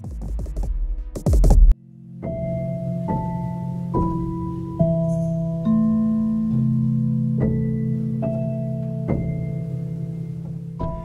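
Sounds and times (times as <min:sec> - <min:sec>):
sustained held chords: 0:01.8 - 0:11.0.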